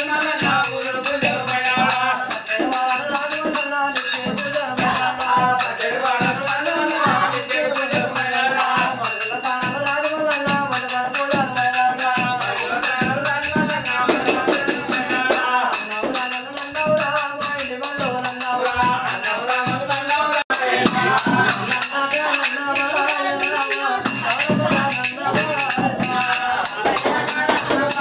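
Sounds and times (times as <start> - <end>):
jingling rattling percussion: 0.0 - 28.0.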